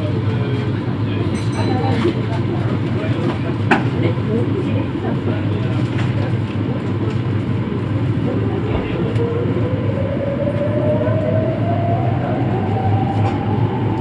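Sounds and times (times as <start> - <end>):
low hum inside train cab: 0.0 - 14.0.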